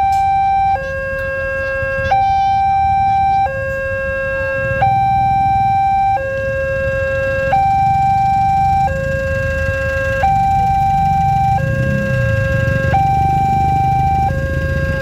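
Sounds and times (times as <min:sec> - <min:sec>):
two-tone level crossing alarm: 0:00.0 - 0:15.0.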